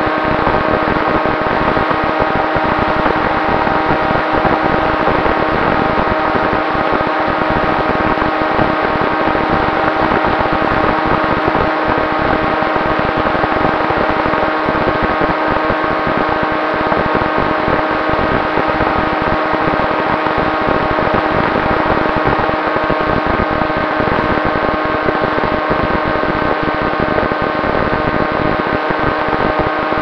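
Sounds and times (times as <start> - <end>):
constant rush of noise: 0.0 - 30.0
electric motor and propeller whine: 0.0 - 30.0.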